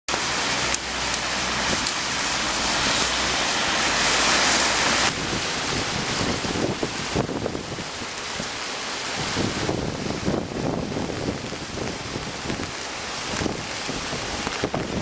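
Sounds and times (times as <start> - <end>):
gusting wind: 0.1 - 15.0
heavy rain: 0.1 - 15.0.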